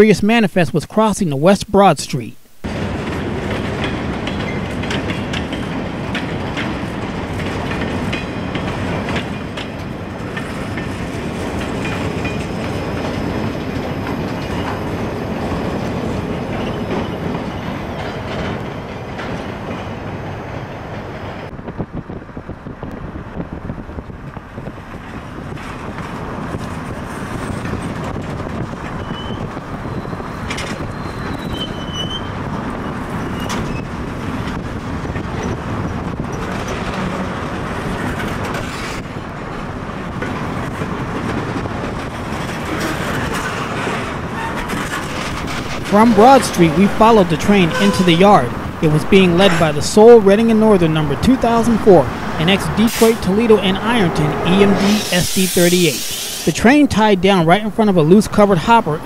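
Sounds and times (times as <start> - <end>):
freight train rumbling past: 2.7 - 31.7, 32.3 - 59.0.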